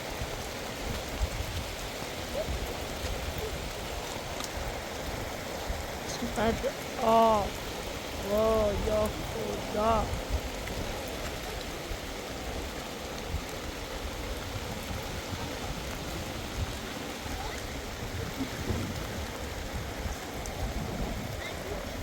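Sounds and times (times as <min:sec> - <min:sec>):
heavy rain on ground: 0:00.0 - 0:22.0.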